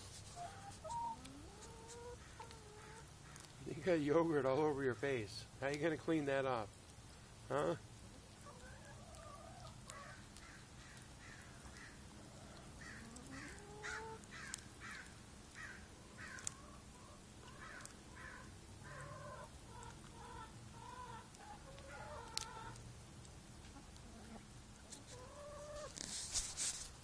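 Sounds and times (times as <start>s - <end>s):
chickens clucking: 0.0s - 23.0s, 23.6s - 26.5s.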